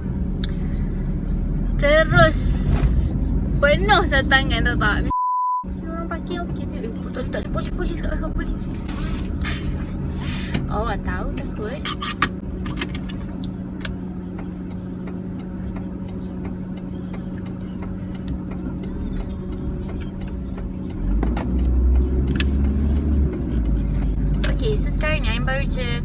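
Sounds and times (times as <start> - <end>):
car engine and road hum: 0.0 - 26.0
deep road rumble: 0.0 - 26.0.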